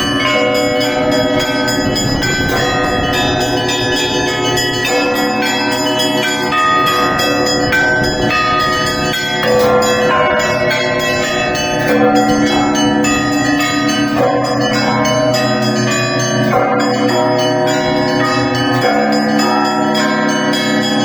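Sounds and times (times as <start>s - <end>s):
church bells pealing: 0.0s - 21.0s.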